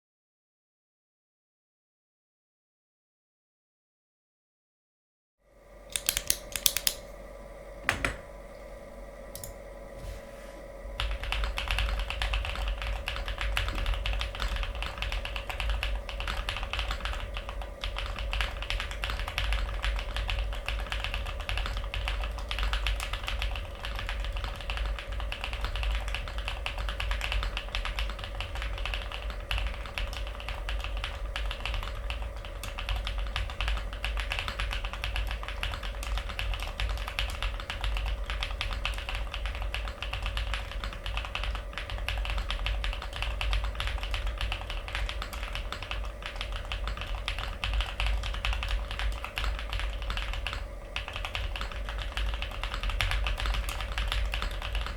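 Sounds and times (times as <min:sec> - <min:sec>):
mechanical keyboard typing: 0:05.9 - 0:07.1, 0:11.0 - 0:54.9.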